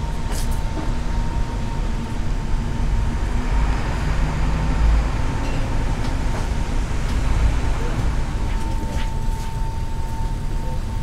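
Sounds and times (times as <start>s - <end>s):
thin constant whine: 0.0s - 11.0s.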